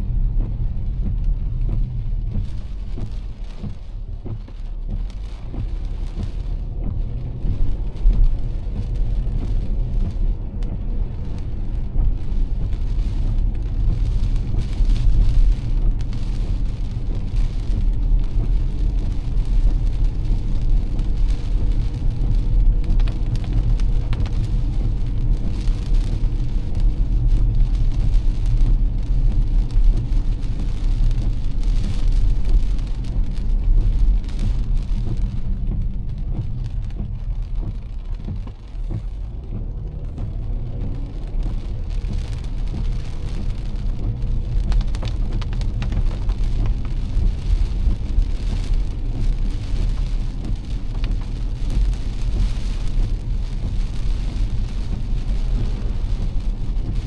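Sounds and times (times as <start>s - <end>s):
car engine and road rumble: 0.0s - 57.0s
rain hissing and spattering: 0.0s - 57.0s.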